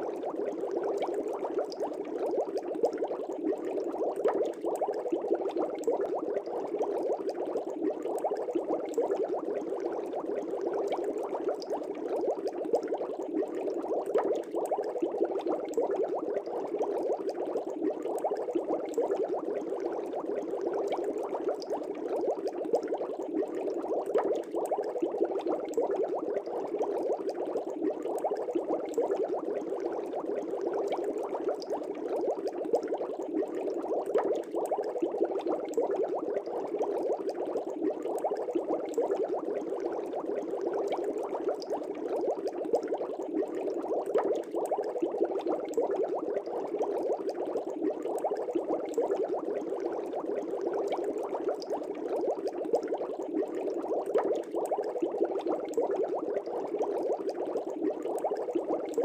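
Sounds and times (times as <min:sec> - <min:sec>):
aquarium air bubbling: 0:00.0 - 0:59.0.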